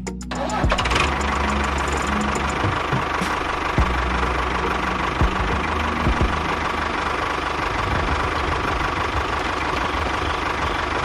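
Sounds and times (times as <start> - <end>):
small engine running: 0.4 - 11.0.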